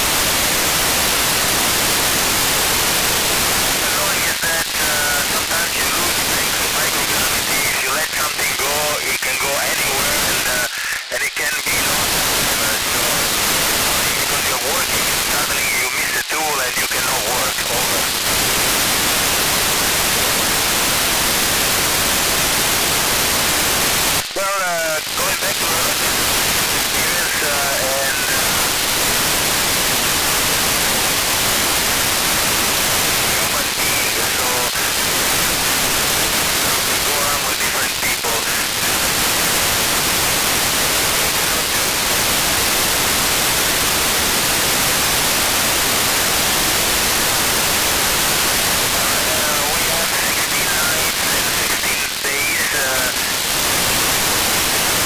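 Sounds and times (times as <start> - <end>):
radio receiver hiss: 0.0 - 55.0.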